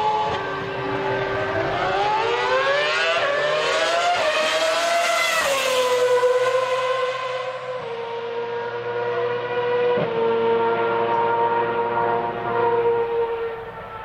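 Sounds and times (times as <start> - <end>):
racing car engine revving: 0.0 - 14.0.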